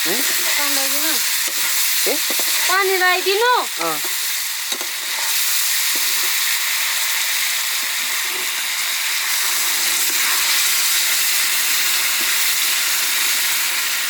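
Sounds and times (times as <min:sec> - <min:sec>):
curry sizzling in pot: 0:00.0 - 0:14.0
steam hissing: 0:00.0 - 0:14.0.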